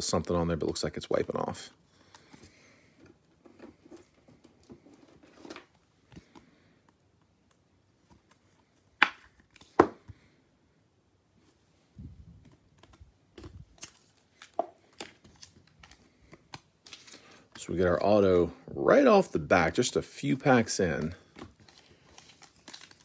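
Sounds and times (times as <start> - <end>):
cards rustling: 0.0 - 10.2, 12.4 - 18.1, 20.2 - 23.0.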